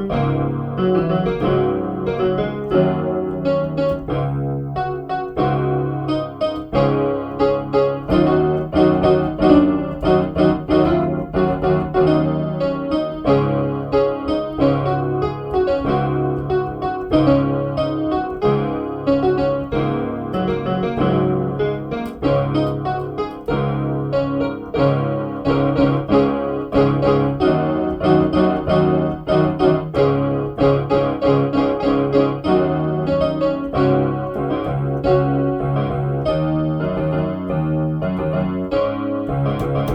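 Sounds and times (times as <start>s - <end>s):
electronic keyboard piano music: 0.0s - 39.9s.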